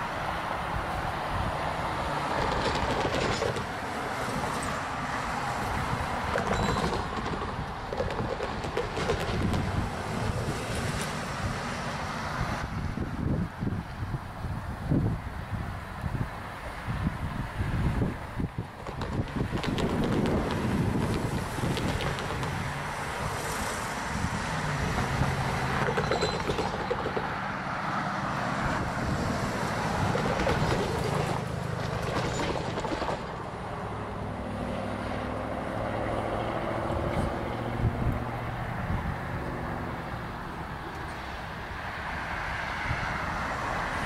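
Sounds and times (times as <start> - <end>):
diesel locomotive engine drone: 0.0 - 44.0.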